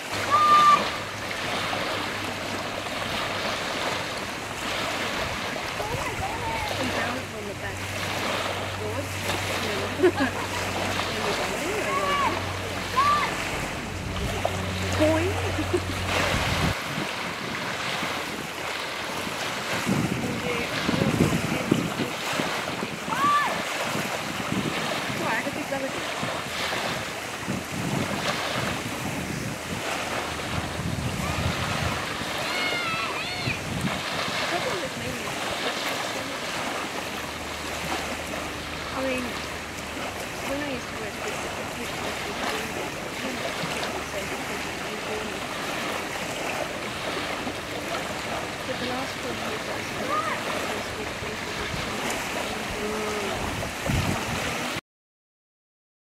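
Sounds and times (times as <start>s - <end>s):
choppy water lapping: 0.0s - 54.8s
low engine hum: 0.0s - 54.8s
wind: 0.0s - 54.8s.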